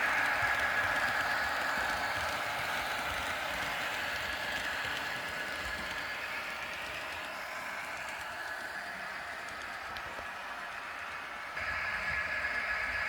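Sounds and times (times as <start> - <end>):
model train wheels and motor whirring: 0.0 - 13.0.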